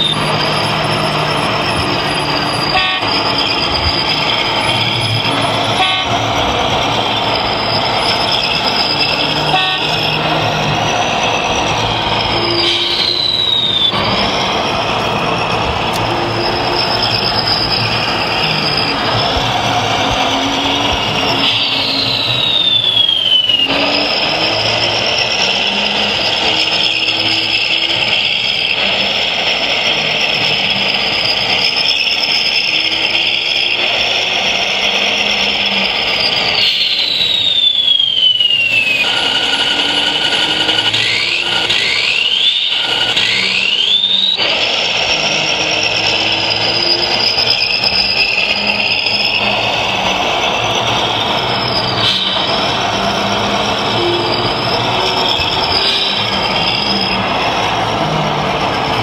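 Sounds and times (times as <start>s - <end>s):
hydraulic pump running: 0.0s - 59.0s.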